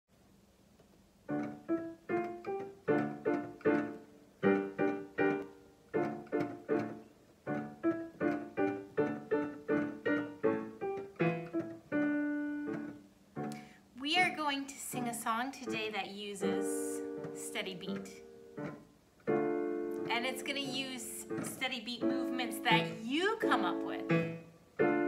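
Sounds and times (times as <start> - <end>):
digital piano playing chords: 1.2 - 25.0.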